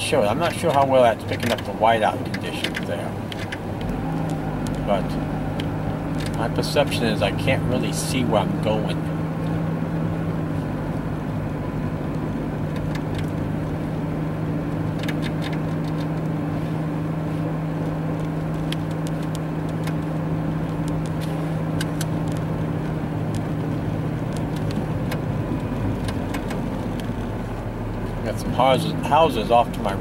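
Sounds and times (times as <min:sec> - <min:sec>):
car engine and tyres droning: 0:00.0 - 0:30.0
constant low hum: 0:00.0 - 0:30.0.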